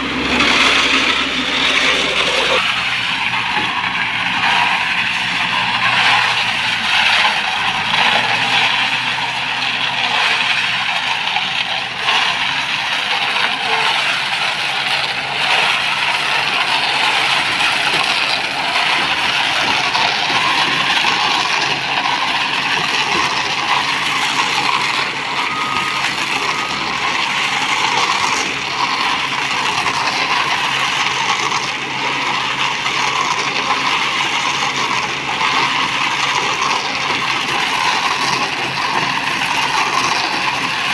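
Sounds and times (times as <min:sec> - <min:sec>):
concrete mixer running: 0:00.0 - 0:40.9.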